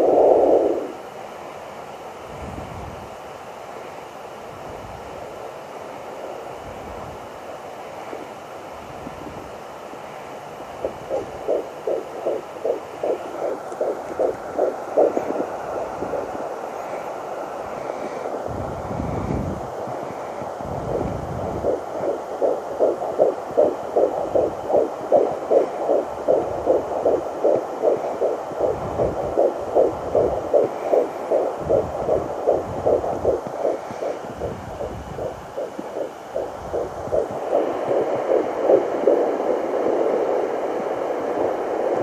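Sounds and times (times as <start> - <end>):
fetal heartbeat pulses: 0.0 - 1.0, 8.0 - 8.4, 9.0 - 42.0
steady hum: 0.0 - 42.0.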